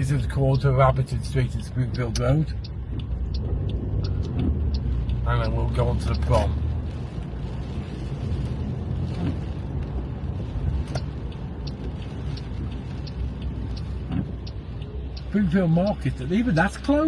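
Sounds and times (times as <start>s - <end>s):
engine and road rumble: 0.0s - 17.0s
faint ticks: 0.0s - 17.0s.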